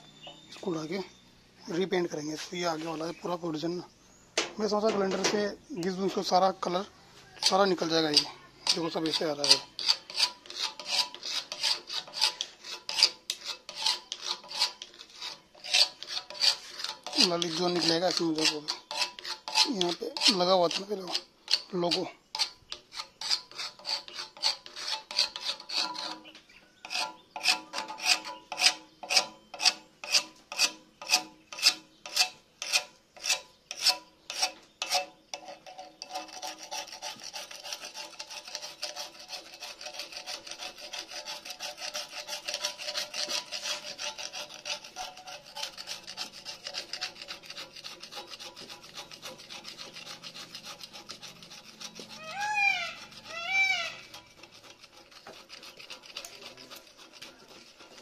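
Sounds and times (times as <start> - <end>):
paint scraping off metal: 0.2 - 58.0.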